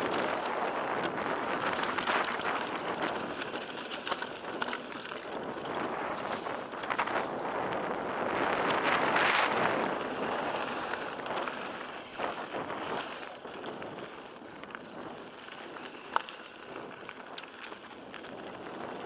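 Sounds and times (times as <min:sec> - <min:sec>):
bike rattles and clicks: 0:00.0 - 0:19.0
bike tyres rushing on gravel: 0:00.0 - 0:19.0.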